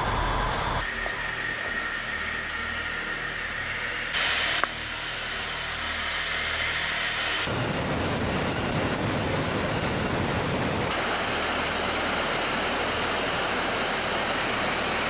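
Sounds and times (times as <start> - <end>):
jet aircraft rushing noise: 0.0 - 15.0.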